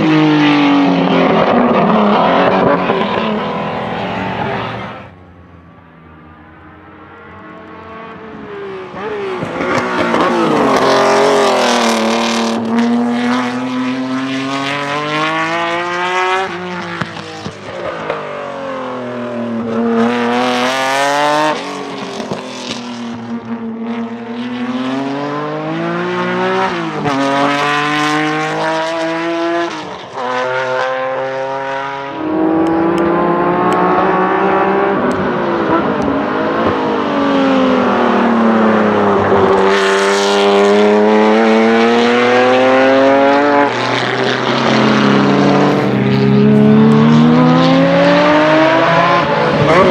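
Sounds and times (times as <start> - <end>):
racecar engine revving: 0.0 - 49.9.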